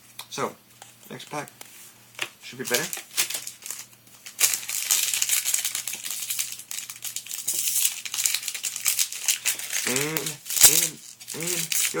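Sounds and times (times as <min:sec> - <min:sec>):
foil wrapper crinkling: 0:02.2 - 0:12.0.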